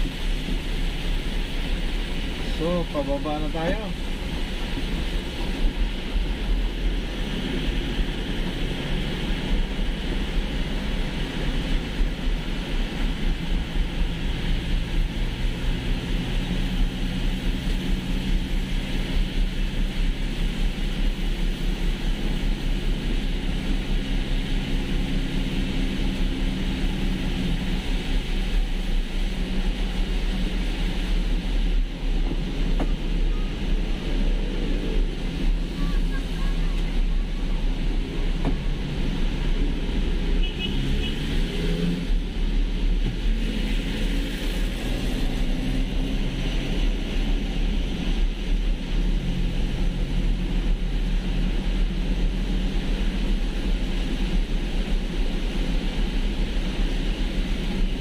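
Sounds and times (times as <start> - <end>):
tyres and rain hissing: 0.0 - 51.6
engine hum: 0.0 - 58.0.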